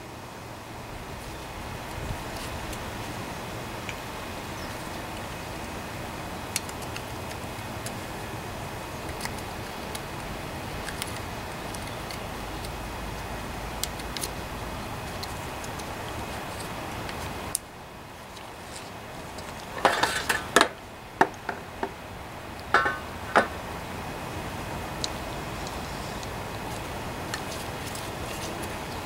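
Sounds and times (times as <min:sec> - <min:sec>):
faint hiss: 0:00.0 - 0:29.0.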